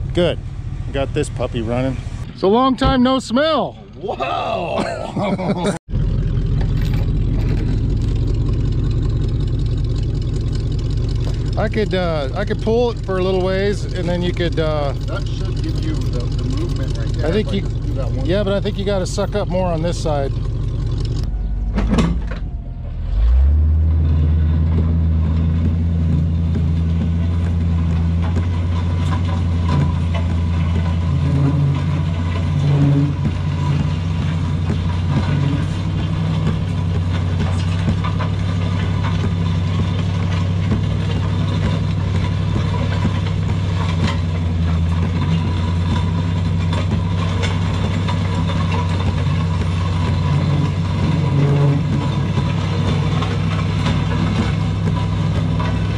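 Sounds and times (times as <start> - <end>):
pickup truck engine running: 0.0 - 4.0, 4.8 - 55.9.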